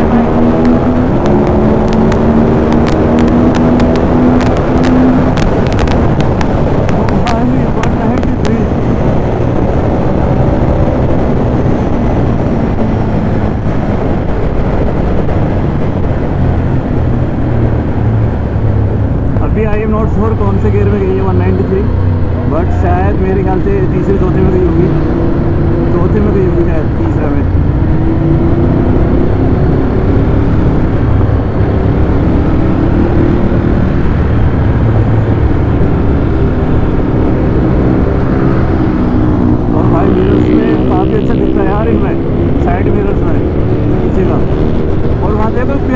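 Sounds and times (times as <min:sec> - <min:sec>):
motorcycle engine at high speed: 0:00.0 - 0:45.9
wind rushing over microphone: 0:00.0 - 0:45.9.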